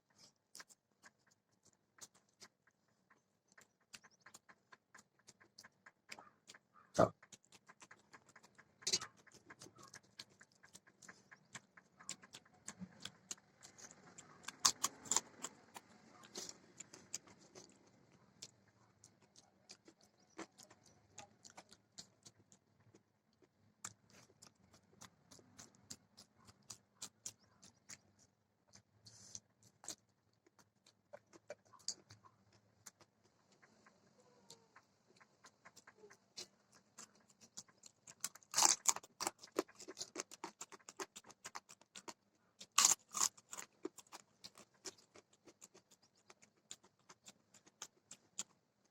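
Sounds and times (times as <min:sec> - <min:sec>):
chewing and mouth clicks: 0:00.0 - 0:48.9.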